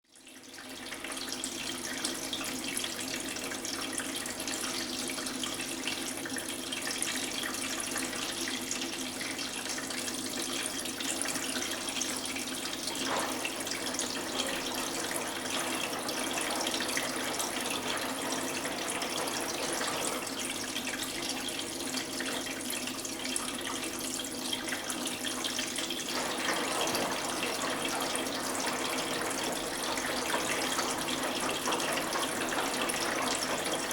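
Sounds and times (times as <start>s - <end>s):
water running into washing machine: 0.1s - 33.9s.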